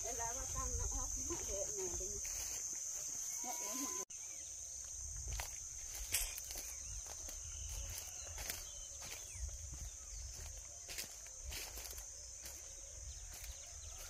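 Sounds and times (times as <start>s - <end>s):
footsteps crunching on dry leaves: 0.0s - 4.0s, 4.7s - 14.0s
high insect chorus: 0.0s - 14.0s.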